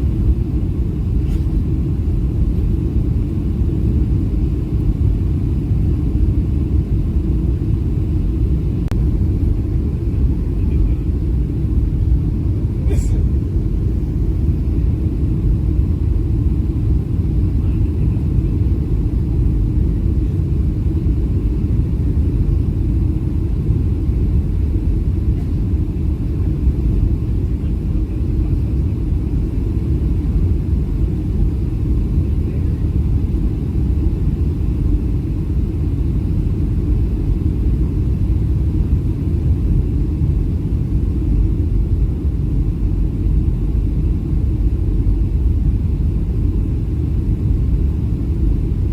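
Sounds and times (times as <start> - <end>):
aircraft cabin rumble: 0.0 - 48.9.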